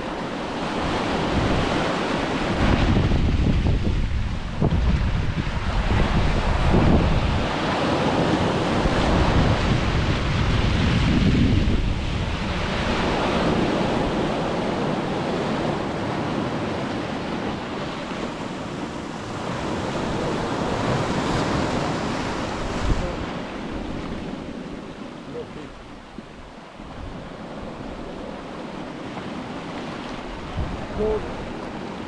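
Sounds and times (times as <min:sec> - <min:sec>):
waves breaking on beach: 0:00.0 - 0:32.0
wind buffeting microphone: 0:00.0 - 0:32.0.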